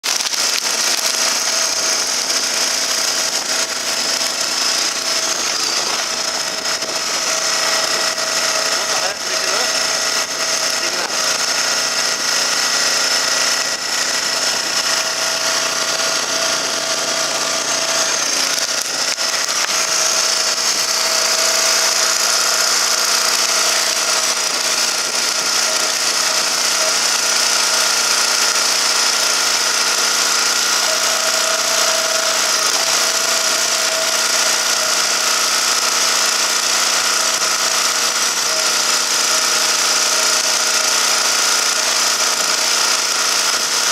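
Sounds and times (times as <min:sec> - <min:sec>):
log splitter motor whining: 0:00.0 - 0:43.9.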